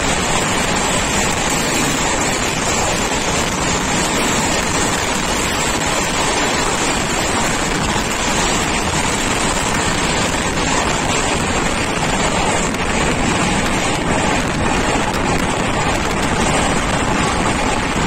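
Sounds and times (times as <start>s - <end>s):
train passing: 0.0s - 18.0s
train wheels on rails: 0.0s - 18.0s
wind rushing: 0.0s - 18.0s.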